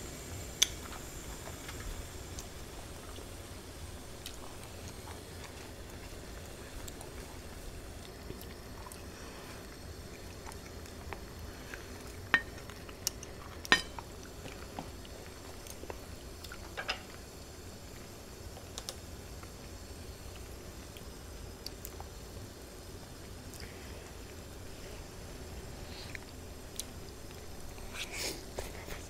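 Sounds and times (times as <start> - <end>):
simmering pot hiss: 0.0 - 29.0.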